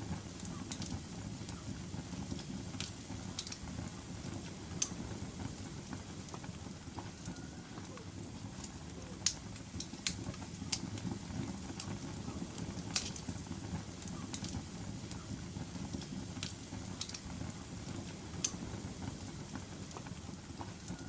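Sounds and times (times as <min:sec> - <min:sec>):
fire crackles and pops: 0:00.0 - 0:21.0
low rumble of fire flames: 0:00.0 - 0:21.0.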